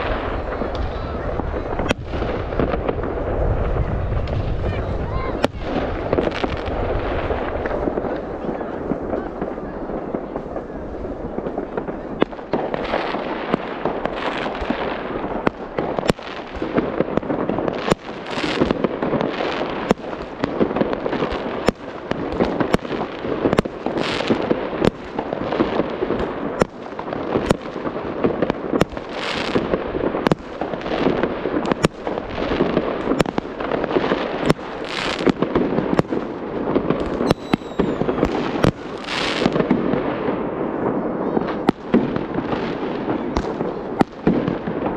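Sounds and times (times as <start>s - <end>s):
fireworks crackling: 0.0s - 44.9s
fireworks sharp bangs: 0.0s - 44.9s
rockets whooshing: 0.0s - 44.9s.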